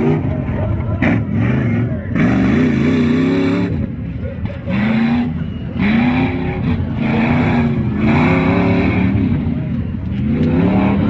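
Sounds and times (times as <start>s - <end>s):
low engine rumble: 0.0s - 11.0s
truck engines revving: 0.0s - 11.0s.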